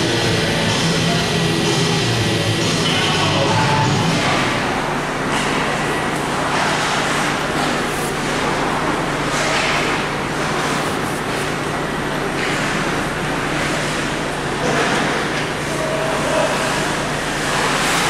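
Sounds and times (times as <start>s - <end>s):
crowd and game noise: 0.0s - 18.0s
steady low hum: 0.0s - 18.0s.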